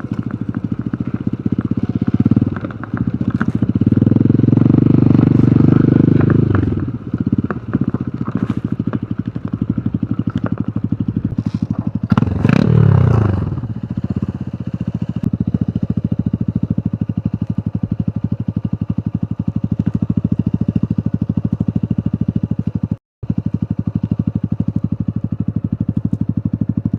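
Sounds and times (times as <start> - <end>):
motorcycle engine revving and idling: 0.0 - 26.9.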